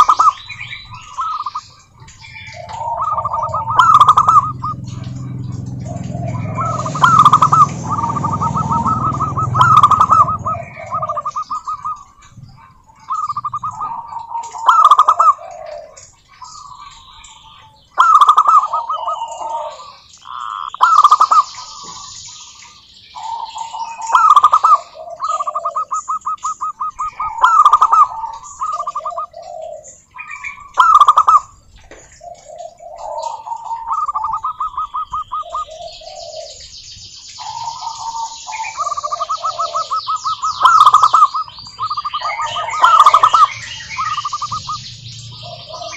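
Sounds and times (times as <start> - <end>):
doves cooing: 0.0 - 45.9.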